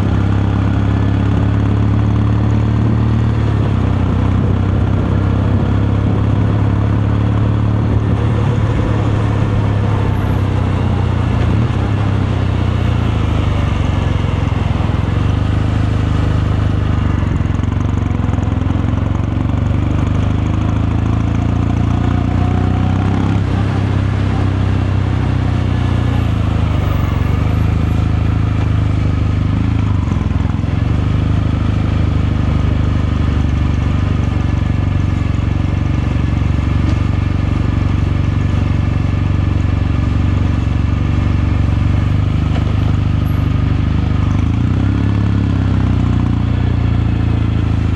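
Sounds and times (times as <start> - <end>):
motorcycle engine running steadily: 0.0 - 47.9.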